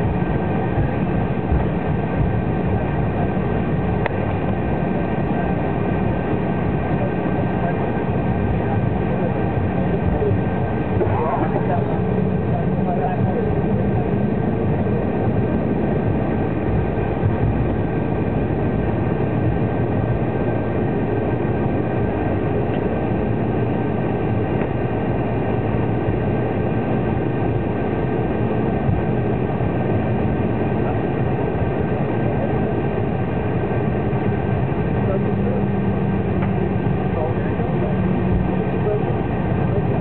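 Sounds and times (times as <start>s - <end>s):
jet engine rumble in cabin: 0.0s - 40.0s
thin steady engine whines: 0.0s - 40.0s.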